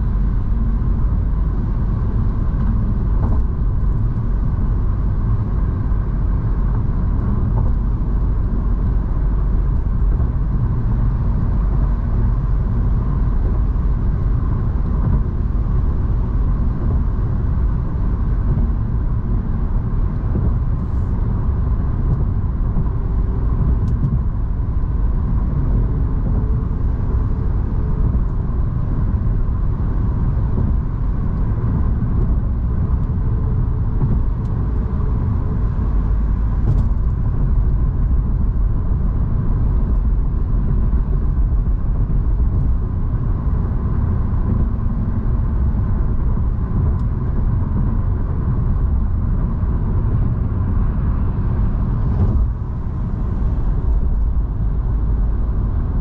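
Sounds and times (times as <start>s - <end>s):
tyre and engine rumble in car: 0.0s - 56.0s.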